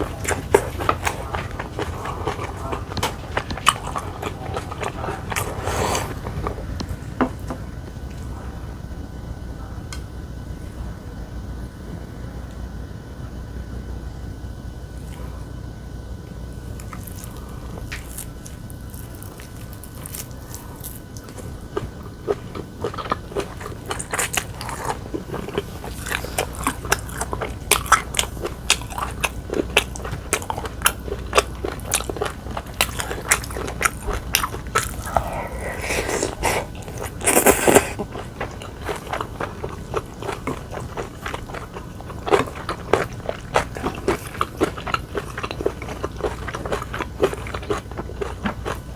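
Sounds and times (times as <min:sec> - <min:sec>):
person chewing crunchy food: 0:00.0 - 0:08.4, 0:16.6 - 0:48.9.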